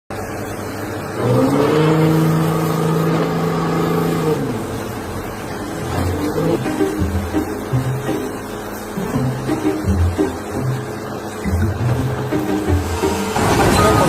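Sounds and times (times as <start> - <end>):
motor spinning up and down: 1.0 - 8.3, 9.0 - 14.0.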